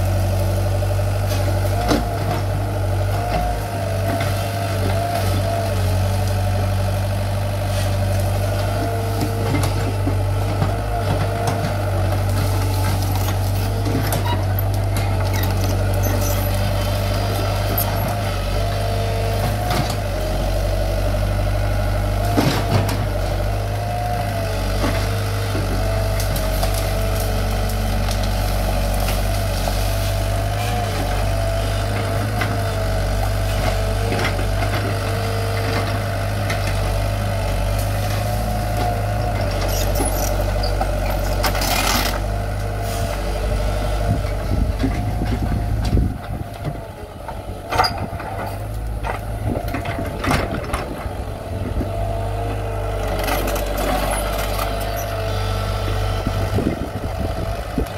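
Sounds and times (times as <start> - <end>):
excavator diesel engine: 0.0 - 57.9.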